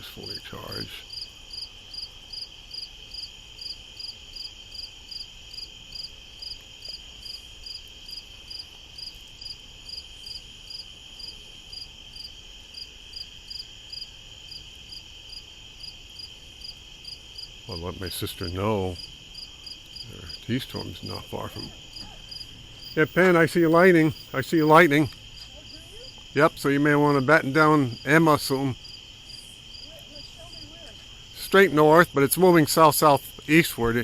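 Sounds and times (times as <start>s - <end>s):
cricket chirps: 0.0s - 34.0s
insects trilling: 0.0s - 34.0s.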